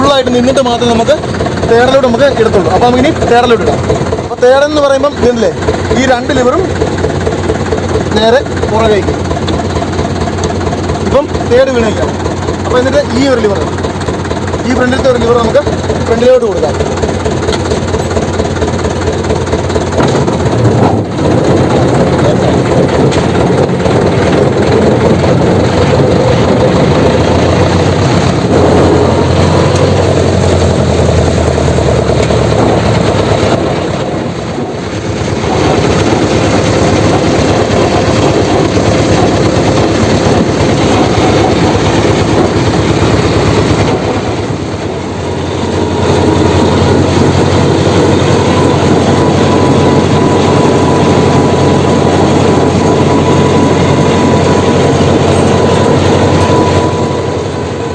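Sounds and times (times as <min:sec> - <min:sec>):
rattling clatter: 0:00.0 - 0:57.4
road roller diesel engine: 0:00.0 - 0:57.9.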